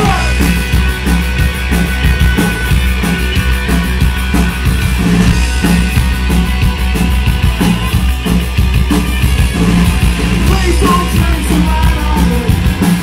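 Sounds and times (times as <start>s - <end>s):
distorted electric guitar: 0.0s - 13.0s
drum kit fast beat: 0.0s - 13.0s
heavy bass: 0.0s - 13.0s.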